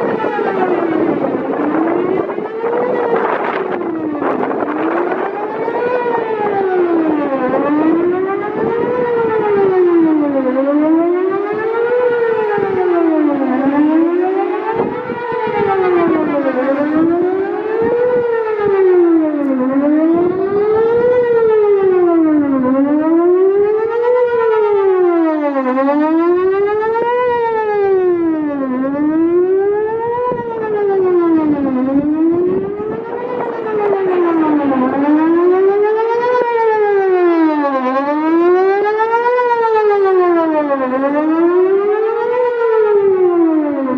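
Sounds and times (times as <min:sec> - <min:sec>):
rising and falling warning siren: 0:00.0 - 0:43.9
wind buffeting microphone: 0:00.0 - 0:43.9.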